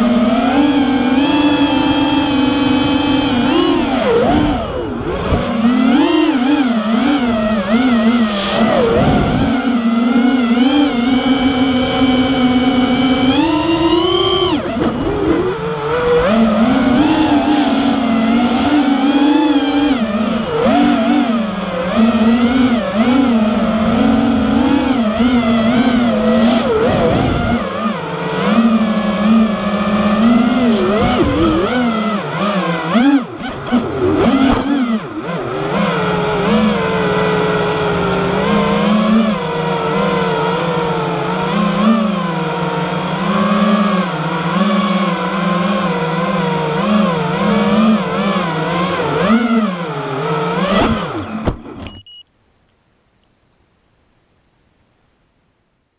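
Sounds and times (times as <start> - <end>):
quadcopter motors buzzing whine: 0.0 - 52.2.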